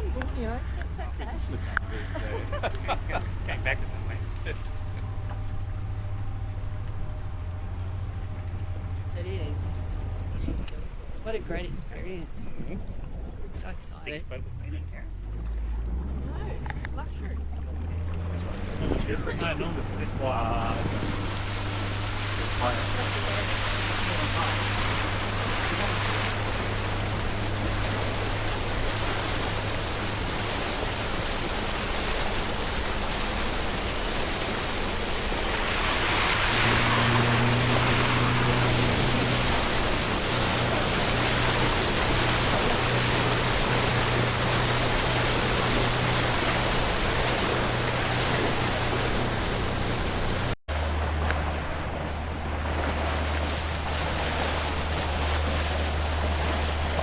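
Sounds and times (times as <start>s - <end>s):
boat motor running: 0.0s - 57.0s
water rushing: 0.0s - 57.0s.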